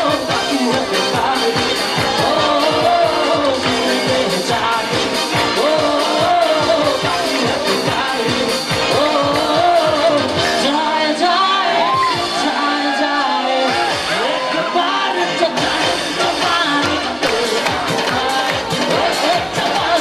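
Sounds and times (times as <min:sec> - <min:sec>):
bass guitar: 0:00.0 - 0:20.0
keyboards: 0:00.0 - 0:20.0
man singing into microphone: 0:00.0 - 0:20.0.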